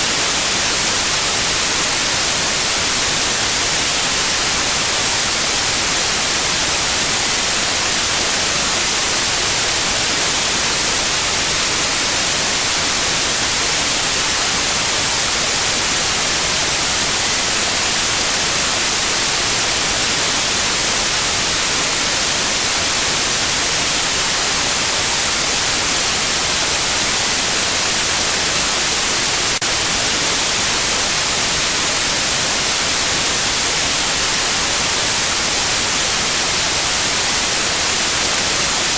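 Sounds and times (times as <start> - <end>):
high-pitched pure tone: 0.0 - 38.9
white noise: 0.0 - 38.9.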